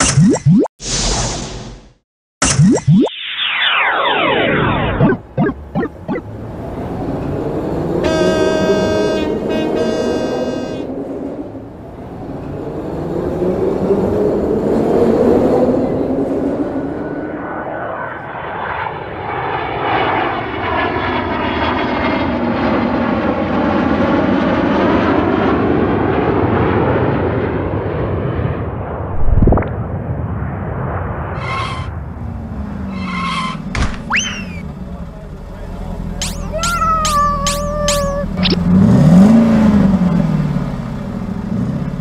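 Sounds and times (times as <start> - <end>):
airplane engine noise: 3.2 - 42.0.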